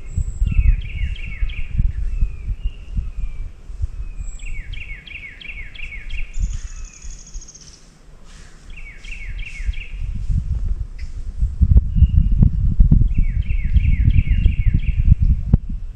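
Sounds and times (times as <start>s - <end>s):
songbirds whistling: 0.0s - 10.2s, 11.8s - 15.3s
low rumble on microphone: 0.0s - 15.9s.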